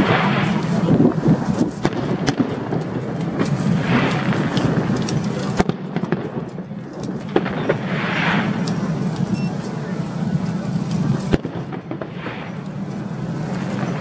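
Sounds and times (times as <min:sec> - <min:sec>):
fireworks bangs and cracks: 0:00.0 - 0:14.0
fireworks crackling: 0:00.0 - 0:14.0
steady background din: 0:00.0 - 0:14.0.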